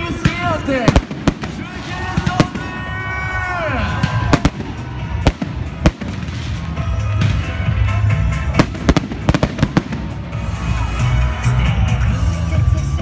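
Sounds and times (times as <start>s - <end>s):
fireworks bangs and cracks: 0.0s - 11.0s
music playing: 0.0s - 13.0s.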